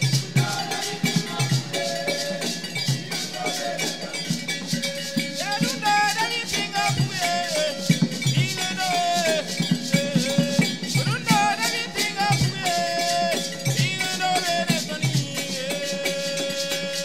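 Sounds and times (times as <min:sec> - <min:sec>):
choir singing: 0:00.0 - 0:17.0
shakers and rattles: 0:00.0 - 0:17.0.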